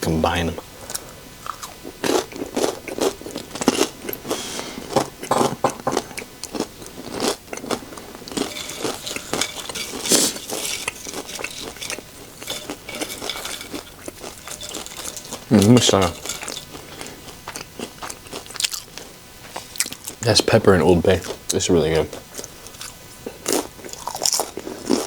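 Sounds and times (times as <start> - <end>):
chewing tortilla chips: 0.8 - 5.3, 5.9 - 20.3, 21.1 - 25.0.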